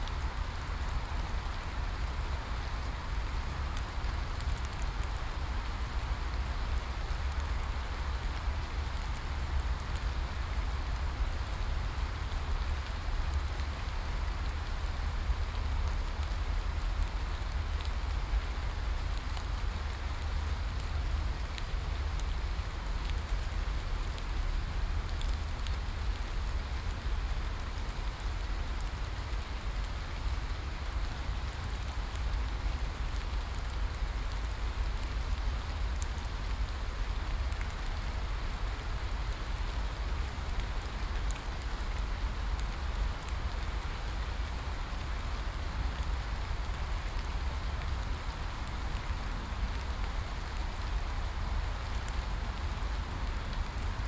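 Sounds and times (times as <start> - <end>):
heavy rain on foliage: 0.0 - 54.0
rain drop ticks: 0.0 - 54.0.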